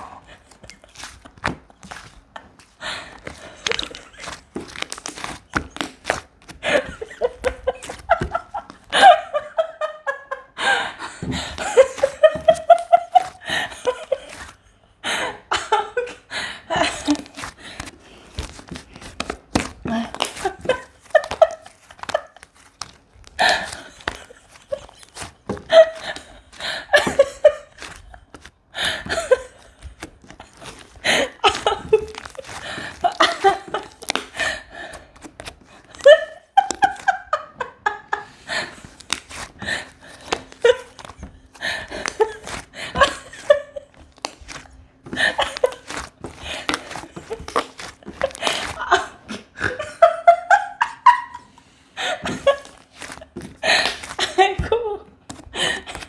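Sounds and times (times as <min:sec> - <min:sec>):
person laughing: 0:06.5 - 0:18.0, 0:19.6 - 0:22.6, 0:23.4 - 0:56.0.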